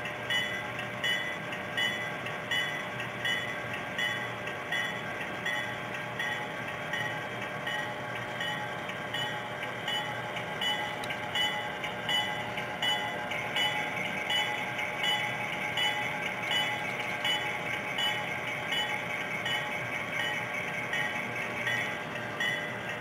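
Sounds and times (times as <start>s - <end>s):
train wheels clicking on rails: 0.0s - 23.0s.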